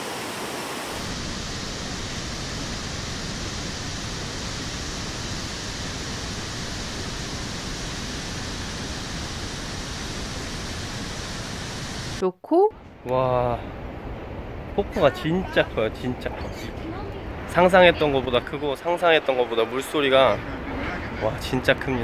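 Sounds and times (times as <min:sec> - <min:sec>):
loud waterfall rushing: 0:00.0 - 0:12.2, 0:14.7 - 0:22.0.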